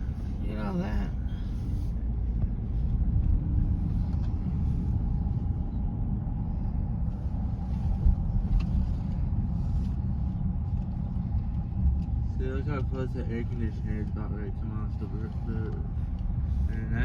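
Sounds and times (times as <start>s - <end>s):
car road rumble and engine hum: 0.0s - 17.0s.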